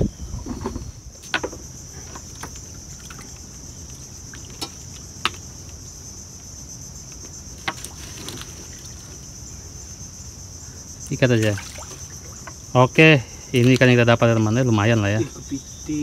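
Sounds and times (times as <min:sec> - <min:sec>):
insect chorus droning: 0:00.0 - 0:16.0.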